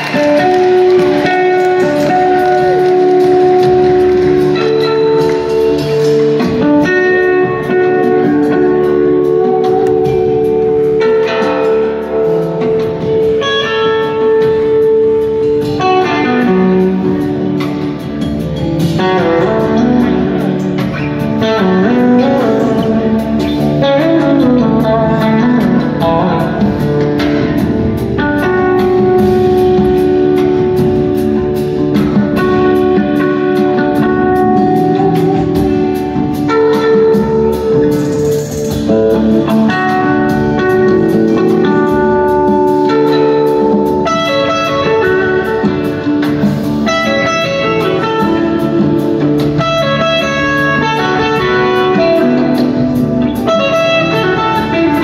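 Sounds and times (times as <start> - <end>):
electric guitar leading: 0.0 - 55.0
live band playing: 0.0 - 55.0.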